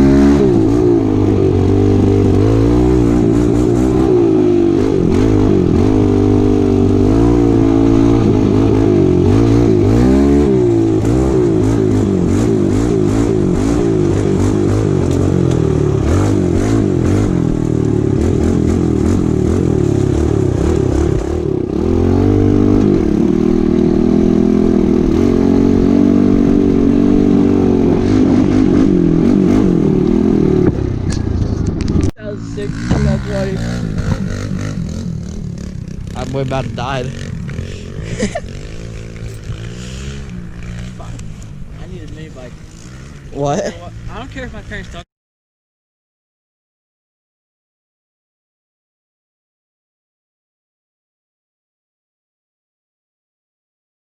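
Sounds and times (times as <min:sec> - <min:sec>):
motorbike engine revving: 0:00.0 - 0:45.0.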